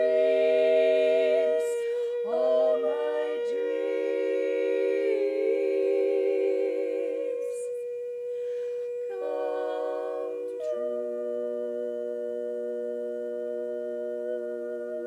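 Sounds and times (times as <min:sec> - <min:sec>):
women singing in close harmony: 0:00.0 - 0:07.8, 0:09.1 - 0:15.0.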